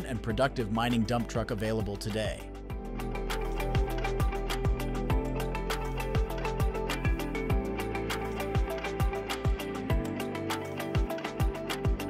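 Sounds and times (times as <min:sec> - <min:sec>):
music with bass drum beat: 0:00.0 - 0:12.0.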